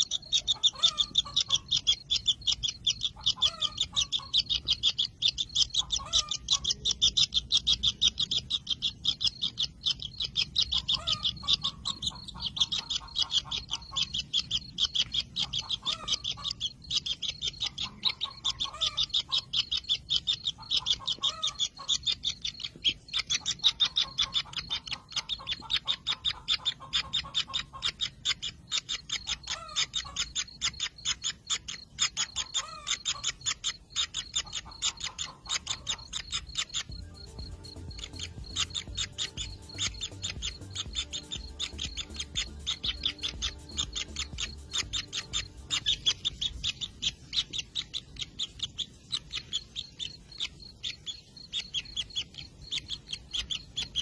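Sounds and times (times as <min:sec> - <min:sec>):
lower bird call: 0:00.0 - 0:54.0
nestlings high-pitched chirps: 0:00.0 - 0:54.0.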